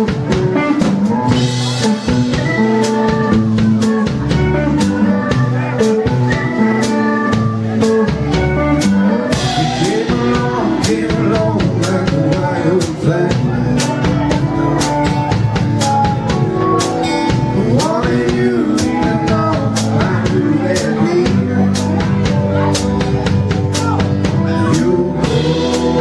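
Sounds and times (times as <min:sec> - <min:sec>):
drum kit steady beat: 0:00.0 - 0:26.0
live band playing: 0:00.0 - 0:26.0.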